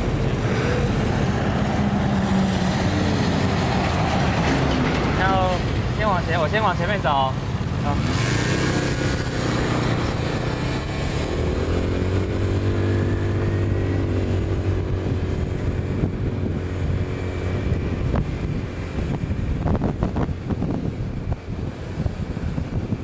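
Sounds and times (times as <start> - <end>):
engine running: 0.0 - 6.0, 7.4 - 23.0.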